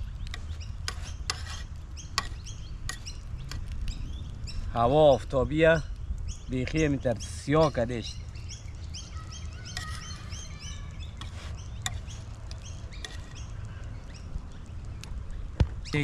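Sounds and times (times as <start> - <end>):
birds chirping: 0.0 - 16.0
steady low rumble: 1.7 - 9.6, 10.8 - 16.0.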